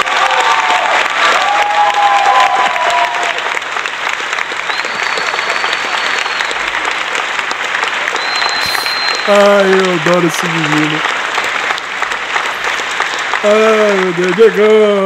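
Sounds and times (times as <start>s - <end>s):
crowd clapping: 0.0s - 15.0s.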